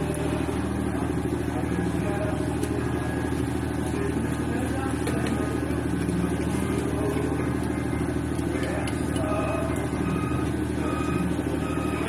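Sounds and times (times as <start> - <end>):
engine idling drone: 0.0 - 12.0.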